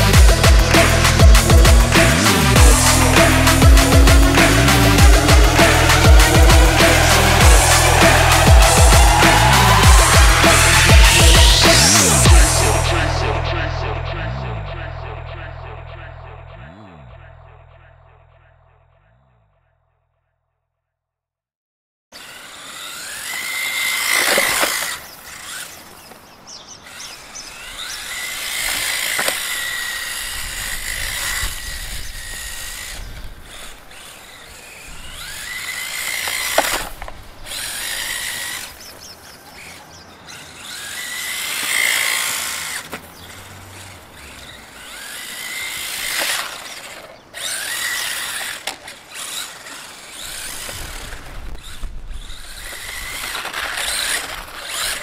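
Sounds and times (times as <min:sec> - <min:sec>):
rc car electric motor whining: 0:00.0 - 0:13.0, 0:22.2 - 0:55.0.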